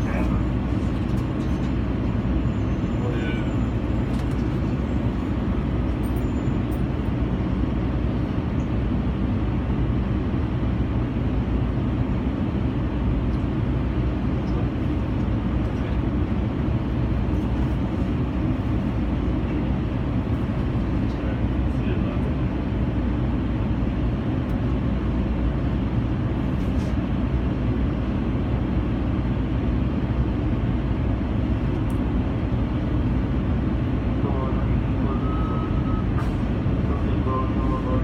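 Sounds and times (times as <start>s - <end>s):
train car rumbling in motion: 0.0s - 38.0s.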